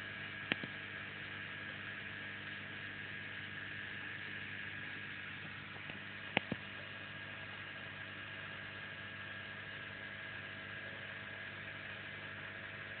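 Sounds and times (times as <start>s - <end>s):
aquarium pump hum: 0.0s - 13.0s.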